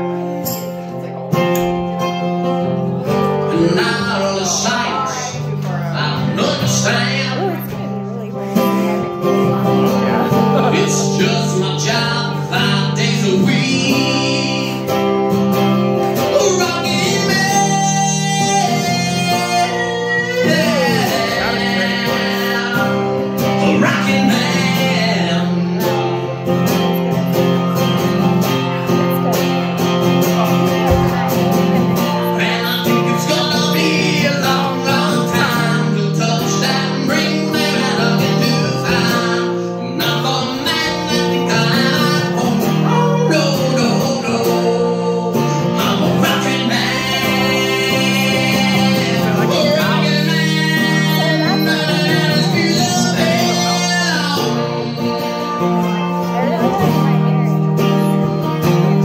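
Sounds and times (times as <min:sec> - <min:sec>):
man singing: 0:00.0 - 0:59.0
strummed acoustic guitar: 0:00.0 - 0:59.0.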